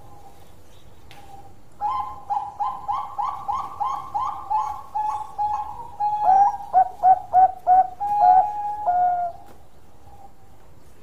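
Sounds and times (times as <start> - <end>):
dove cooing: 1.3 - 10.6.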